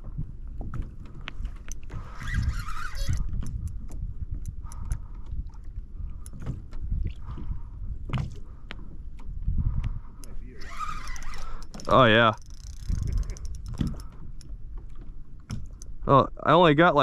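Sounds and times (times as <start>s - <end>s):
water and wind rumble: 0.0s - 17.0s.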